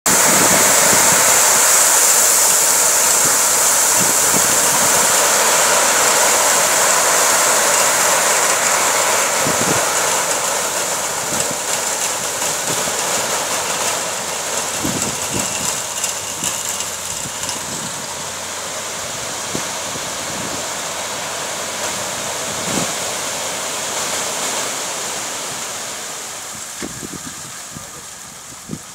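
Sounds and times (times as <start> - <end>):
pebbles pouring rushing hiss: 0.1 - 28.9.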